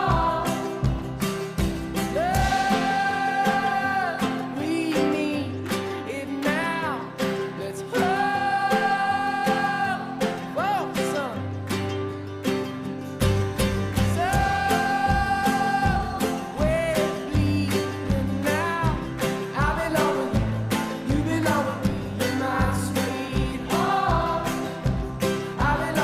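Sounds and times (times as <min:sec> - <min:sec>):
song with singer and band: 0:00.0 - 0:12.2, 0:13.2 - 0:26.0.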